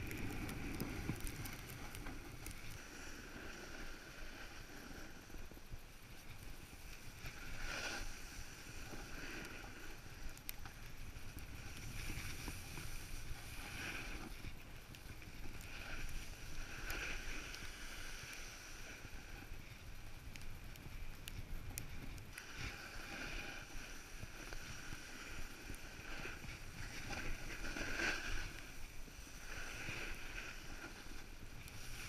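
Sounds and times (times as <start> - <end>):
snowboard scraping on snow: 0.0 - 20.1, 21.9 - 32.0
wind rumbling on microphone: 0.0 - 32.0.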